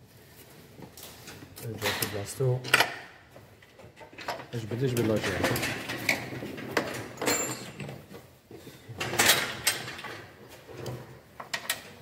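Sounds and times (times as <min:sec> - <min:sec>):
hand tools and metal parts clattering: 0:00.5 - 0:12.0.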